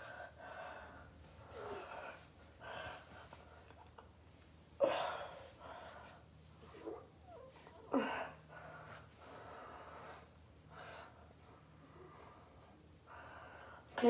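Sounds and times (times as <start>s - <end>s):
person breathing: 0.0s - 3.8s, 4.8s - 7.0s, 7.6s - 13.9s.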